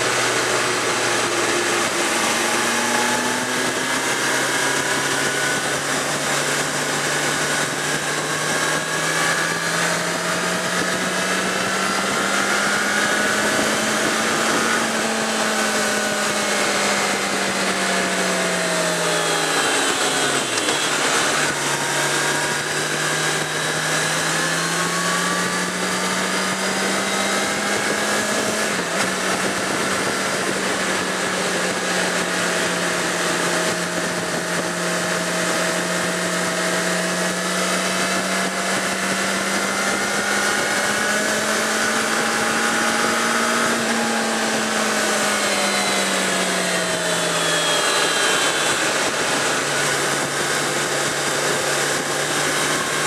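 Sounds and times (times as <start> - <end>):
motorcycle engine: 0.0 - 53.0
wind noise: 0.0 - 53.0.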